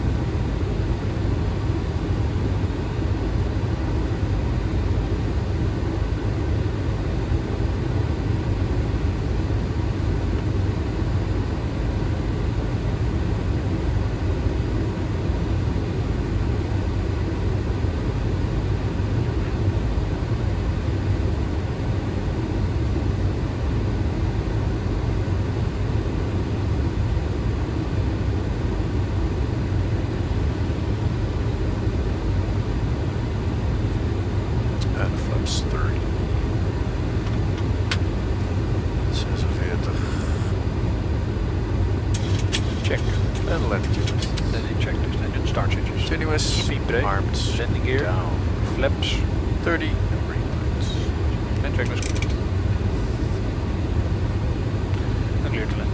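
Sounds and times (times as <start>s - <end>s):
airflow and engine noise: 0.0s - 55.9s.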